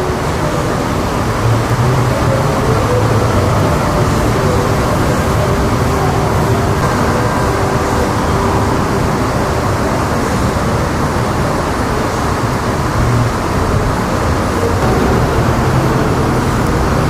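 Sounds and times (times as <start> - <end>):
vehicle and road rumble: 0.2 - 17.0.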